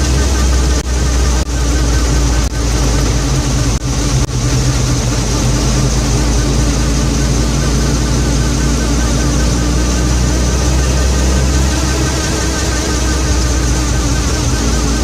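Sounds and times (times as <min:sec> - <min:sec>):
vehicle engine running: 0:00.0 - 0:15.0
wavering whine: 0:00.0 - 0:15.0.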